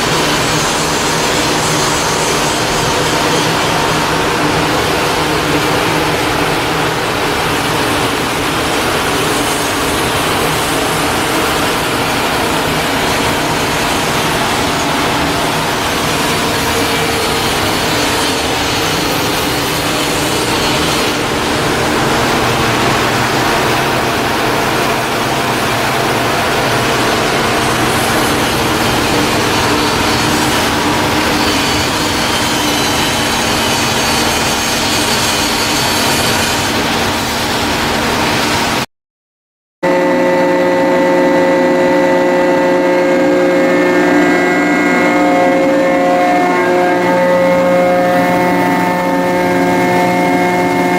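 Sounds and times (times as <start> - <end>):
loud machinery running: 0.0 - 38.9, 39.8 - 50.9.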